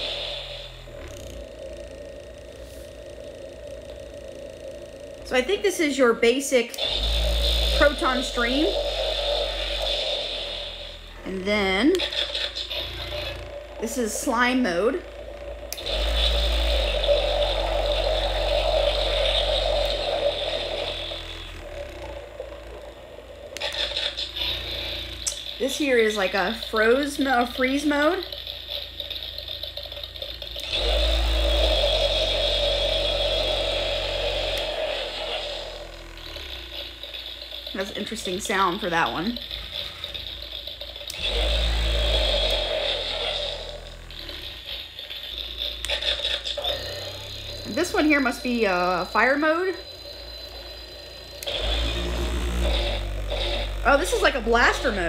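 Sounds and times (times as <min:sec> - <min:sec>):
deep rumble: 0:00.0 - 0:55.0
electronic stream sound effect: 0:00.0 - 0:55.0.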